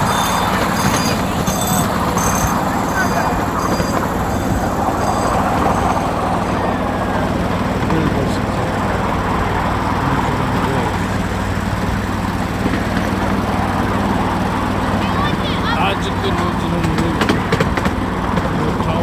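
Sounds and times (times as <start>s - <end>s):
low engine hum: 0.0s - 19.0s
train rumbling: 0.0s - 19.0s.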